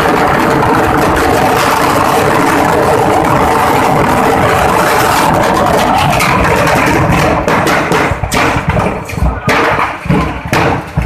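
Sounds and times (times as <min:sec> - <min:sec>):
fire hissing roar: 0:00.0 - 0:09.4
firecrackers cracking and banging: 0:00.0 - 0:11.0.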